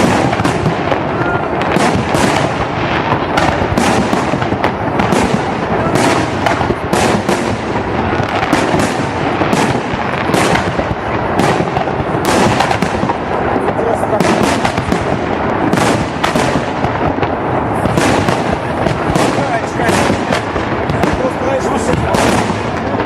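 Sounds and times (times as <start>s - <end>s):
fireworks bangs: 0.0s - 23.0s
rumble of explosions: 0.0s - 23.0s.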